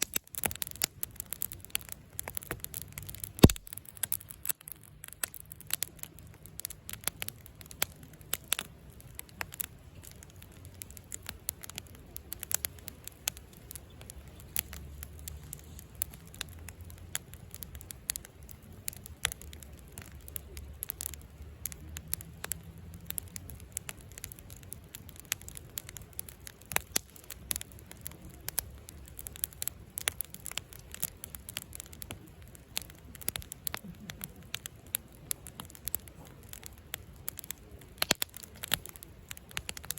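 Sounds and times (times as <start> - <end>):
burning wood popping: 0.0 - 39.9
campfire crackling: 0.0 - 39.9.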